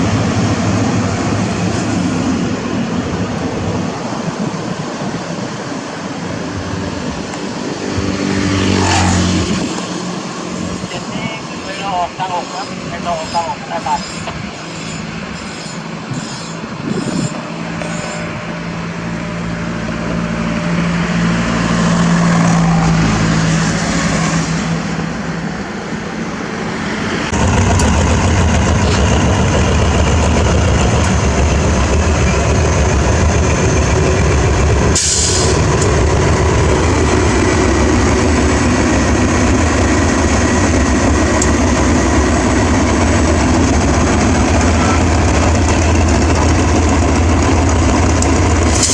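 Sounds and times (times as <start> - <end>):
diesel train passing: 0.0 - 48.9.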